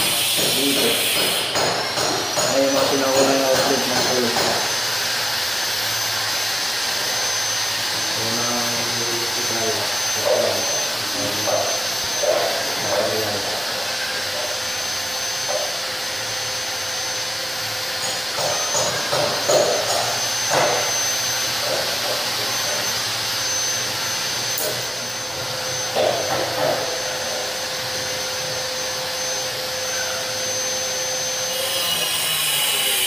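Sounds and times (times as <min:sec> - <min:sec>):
high steady whine: 0:00.0 - 0:33.0.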